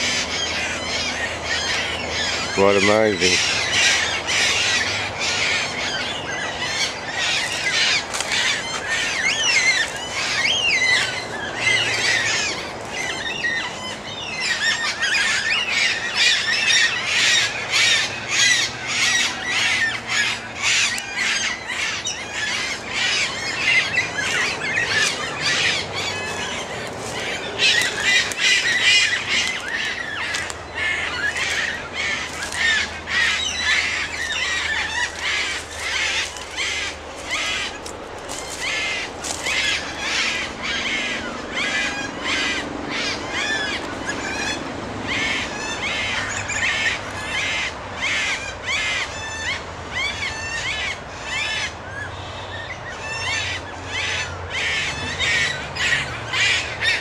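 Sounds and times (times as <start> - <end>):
birds squawking and screeching: 0.0 - 57.0.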